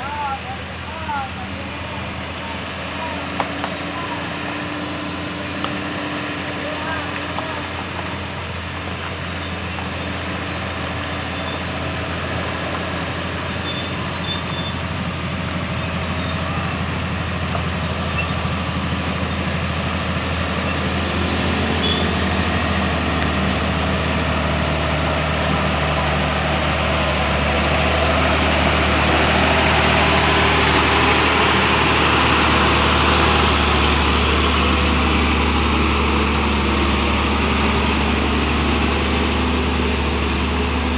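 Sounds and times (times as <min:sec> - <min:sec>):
truck diesel engine labouring: 0:00.0 - 0:40.9.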